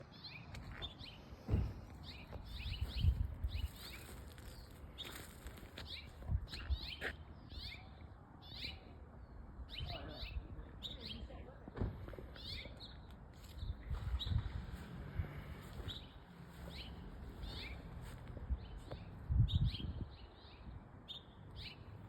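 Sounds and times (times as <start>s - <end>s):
small birds chirping: 0.0s - 14.9s, 15.5s - 22.0s.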